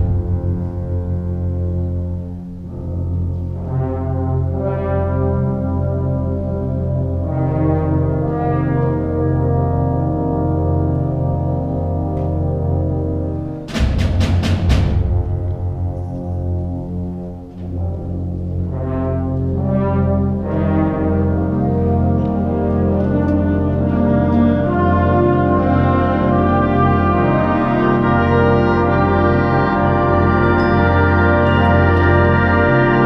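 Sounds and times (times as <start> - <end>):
brass chords: 0.0 - 33.0
wind band playing: 0.0 - 33.0.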